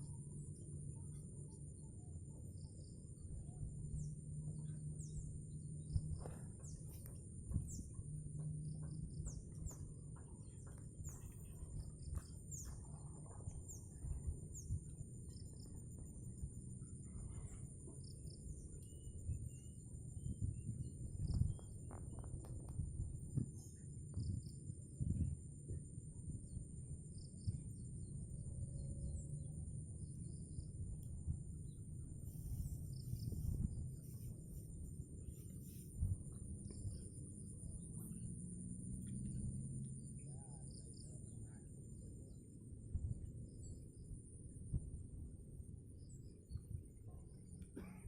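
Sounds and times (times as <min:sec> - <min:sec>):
low rumble: 0:00.0 - 0:47.9.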